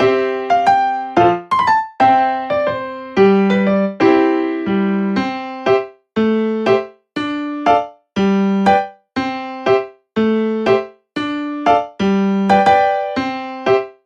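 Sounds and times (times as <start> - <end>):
piano notes and chords: 0.0 - 14.0.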